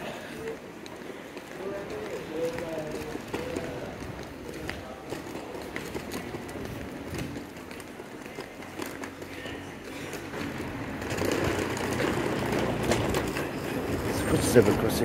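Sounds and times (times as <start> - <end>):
bus engines running: 0.0 - 15.0
footsteps clicking: 0.0 - 15.0
passing traffic: 0.0 - 15.0.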